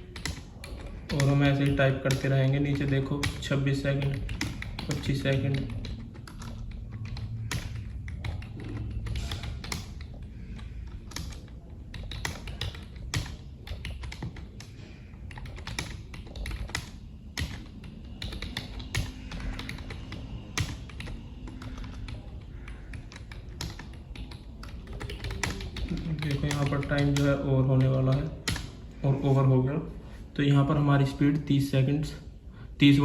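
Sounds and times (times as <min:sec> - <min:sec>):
keyboard typing clicks: 0:00.0 - 0:28.9.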